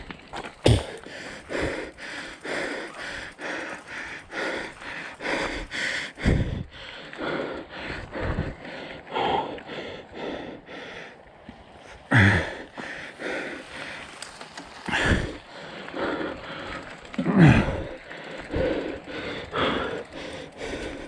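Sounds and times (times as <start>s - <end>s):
person breathing hard: 0.6s - 14.2s, 14.8s - 21.0s.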